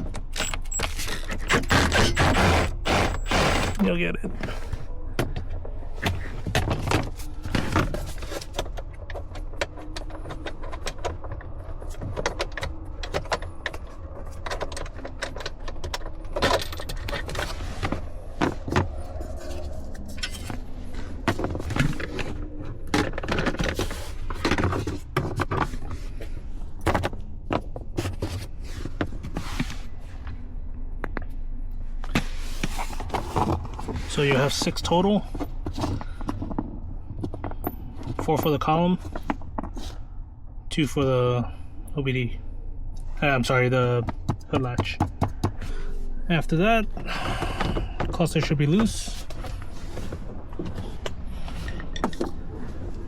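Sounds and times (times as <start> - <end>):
scraping and handling noise: 0.0 - 40.2, 44.0 - 53.0.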